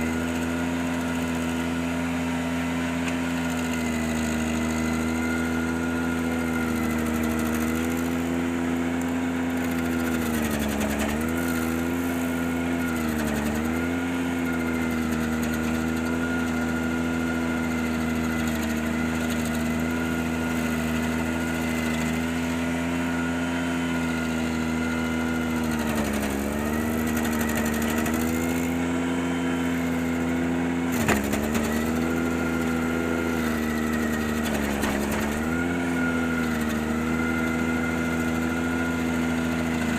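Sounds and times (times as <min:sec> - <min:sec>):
stump grinder cutting: 0:00.0 - 0:39.9
tractor engine at high throttle: 0:00.0 - 0:39.9.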